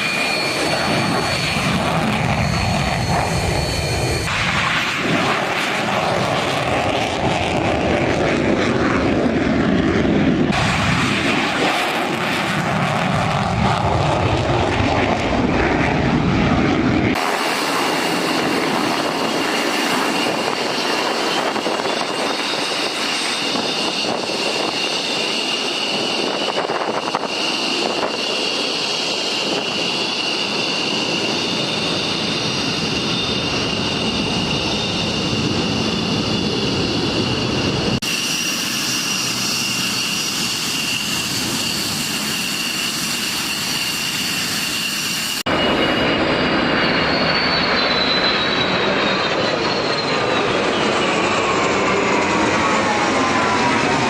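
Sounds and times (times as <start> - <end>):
high engine whine: 0.0 - 54.0
military aircraft engines flying past: 0.0 - 54.0.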